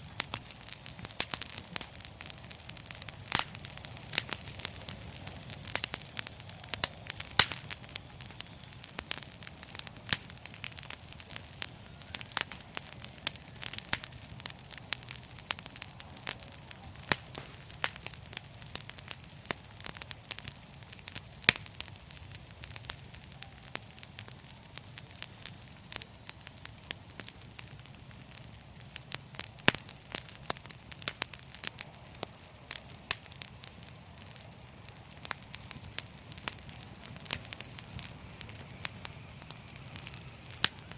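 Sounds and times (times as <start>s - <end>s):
low rush of flame: 0.0s - 40.9s
wood fire crackling and popping: 0.0s - 40.9s.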